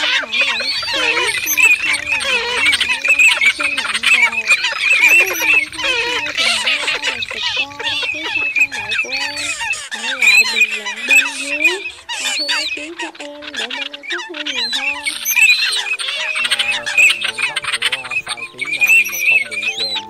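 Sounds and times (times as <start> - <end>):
waterbirds calling: 0.0 - 20.0.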